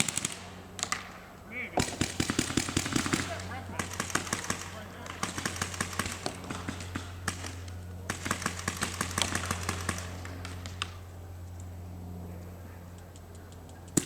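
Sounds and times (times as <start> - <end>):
paintball markers firing: 0.0 - 11.7, 13.0 - 14.0.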